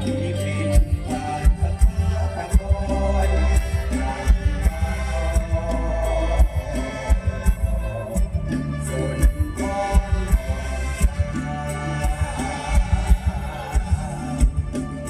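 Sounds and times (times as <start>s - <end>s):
live band music over loudspeakers: 0.0s - 15.0s.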